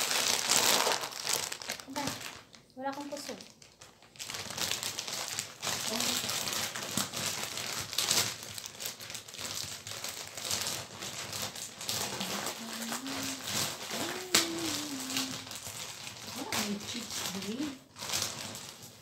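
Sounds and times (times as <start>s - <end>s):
plastic wrappers crinkling: 0.0s - 19.0s.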